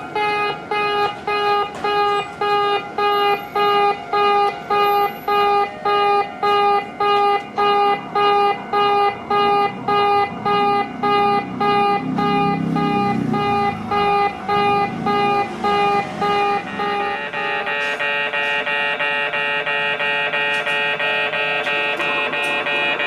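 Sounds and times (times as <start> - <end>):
railroad crossing warning bell: 0.0 - 23.0.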